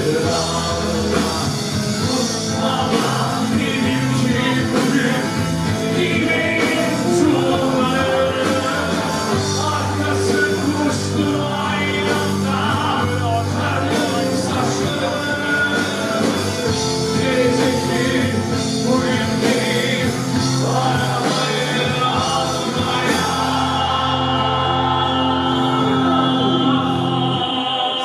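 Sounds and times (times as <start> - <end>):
strong bass line: 0.0 - 27.5
rock band playing live: 0.0 - 28.0.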